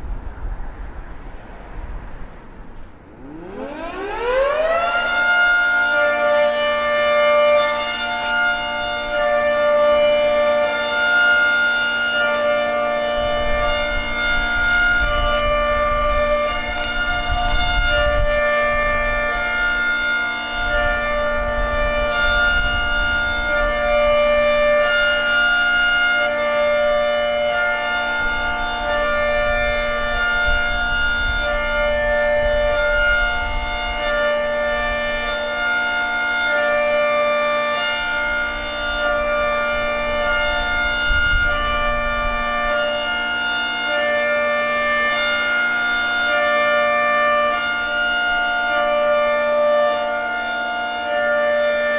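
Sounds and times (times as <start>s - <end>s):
hi-lo warning siren: 0.0s - 51.9s.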